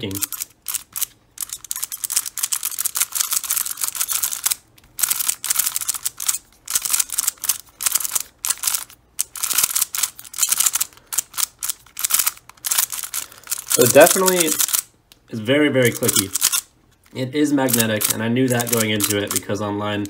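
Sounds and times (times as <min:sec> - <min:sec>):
puzzle cube clicking: 0:00.0 - 0:14.9, 0:15.8 - 0:16.7, 0:17.6 - 0:19.5.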